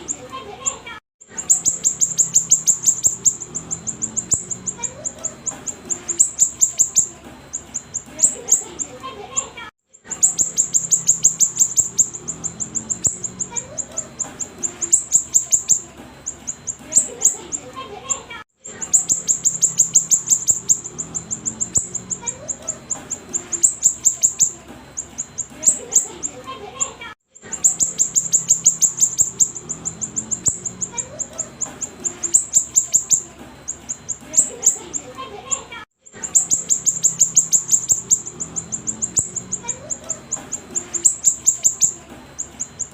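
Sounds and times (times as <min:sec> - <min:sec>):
bird chirping rapidly: 0:00.0 - 0:09.0, 0:10.0 - 0:17.8, 0:18.7 - 0:42.9
songbird singing rapid chips: 0:01.3 - 0:09.0, 0:10.0 - 0:17.7, 0:18.7 - 0:26.5, 0:27.4 - 0:42.9.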